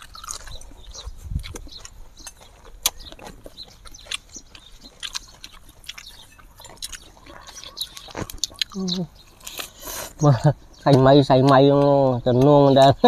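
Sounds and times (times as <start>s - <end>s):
wet chewing and lip-smacking: 0.0s - 12.9s.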